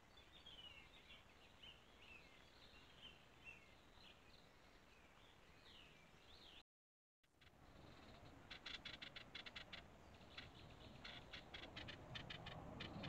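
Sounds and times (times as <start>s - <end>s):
faint birdsong chirps and warbling: 0.0s - 6.6s, 7.2s - 13.0s.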